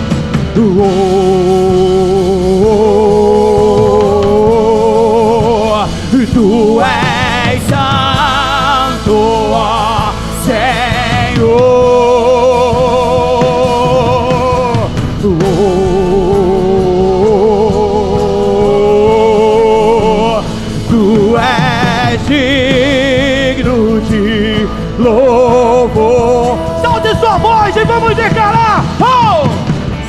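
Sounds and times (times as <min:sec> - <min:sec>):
singer holding long vibrato notes: 0:00.0 - 0:29.9
worship band playing: 0:00.0 - 0:30.0.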